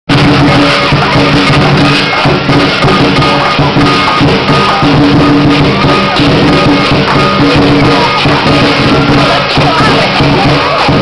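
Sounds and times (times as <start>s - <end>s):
clashing cymbals: 0.1s - 11.0s
drum strokes: 0.1s - 11.0s.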